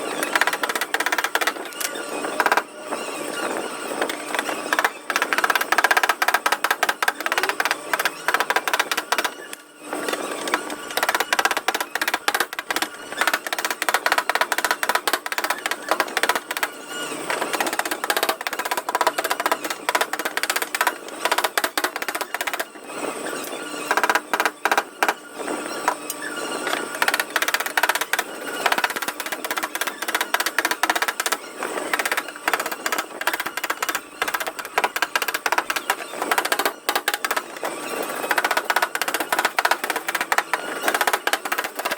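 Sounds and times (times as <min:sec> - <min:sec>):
rapid tapping on sheet metal: 0:00.2 - 0:01.7, 0:04.0 - 0:09.6, 0:10.5 - 0:22.8, 0:23.9 - 0:25.2, 0:26.9 - 0:41.9.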